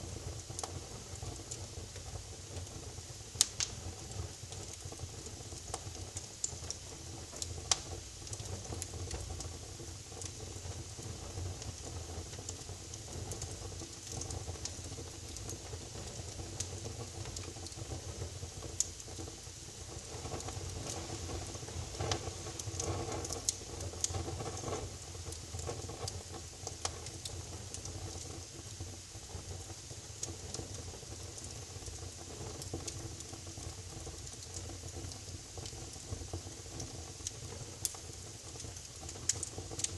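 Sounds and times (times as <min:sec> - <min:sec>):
wood fire crackling: 0:00.0 - 0:39.9
fire pops: 0:00.1 - 0:39.9.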